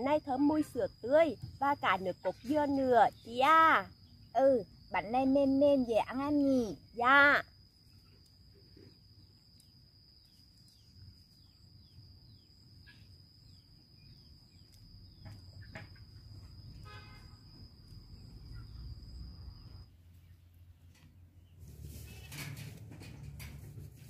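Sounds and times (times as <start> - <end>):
high-pitched insect drone: 0.0 - 19.9.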